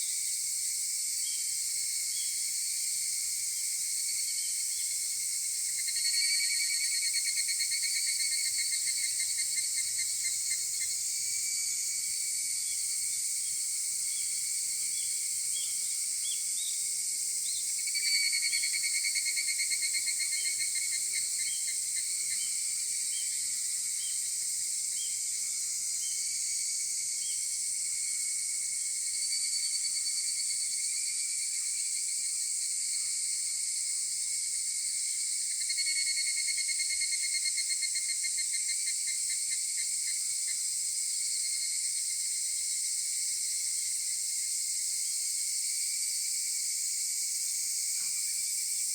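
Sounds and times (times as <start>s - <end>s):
high-pitched insect hiss: 0.0s - 48.9s
cicadas calling in pulsed phrases: 1.2s - 48.9s.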